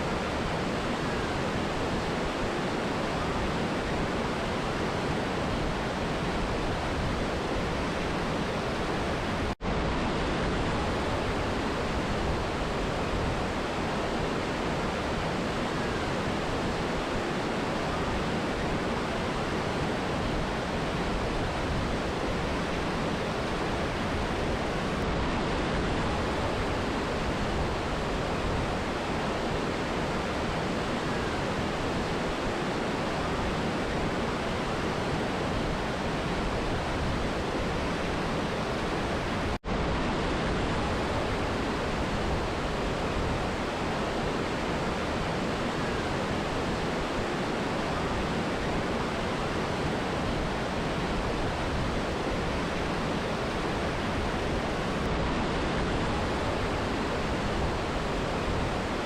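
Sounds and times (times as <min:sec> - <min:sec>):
river and waterfall rushing: 0:00.0 - 0:59.0.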